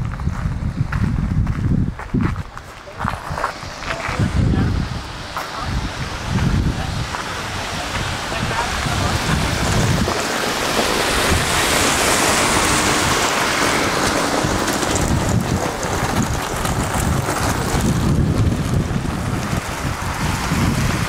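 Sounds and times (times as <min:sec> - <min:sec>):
wind buffeting microphone: 0:00.0 - 0:21.0
traffic hiss on wet road: 0:02.4 - 0:21.0.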